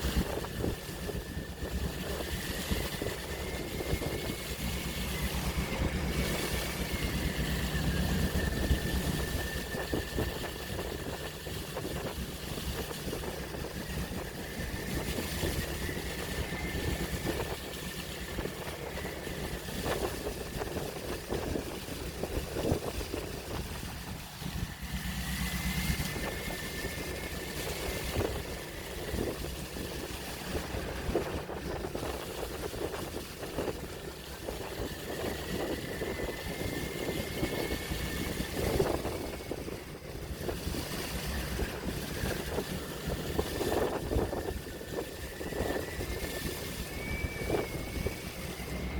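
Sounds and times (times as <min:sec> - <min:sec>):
engine-like hum: 0:00.0 - 0:48.9
sea waves washing: 0:00.0 - 0:48.9
wind noise: 0:00.0 - 0:48.9.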